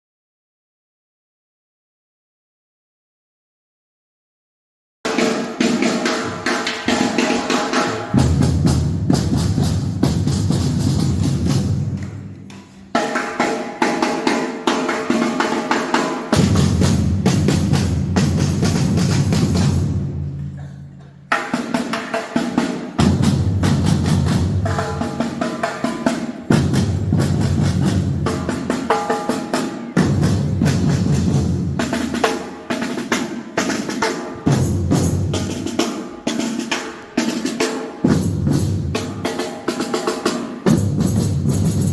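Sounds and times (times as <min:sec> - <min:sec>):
drum band playing fast rhythm: 0:05.1 - 0:20.4, 0:21.2 - 0:41.9.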